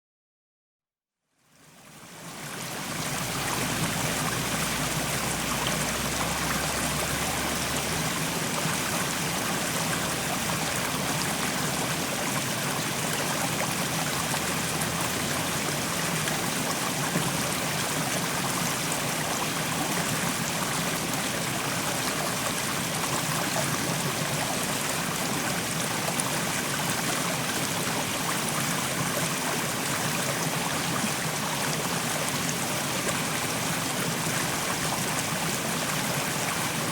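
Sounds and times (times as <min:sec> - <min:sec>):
stream flowing over rocks: 0:01.6 - 0:36.9.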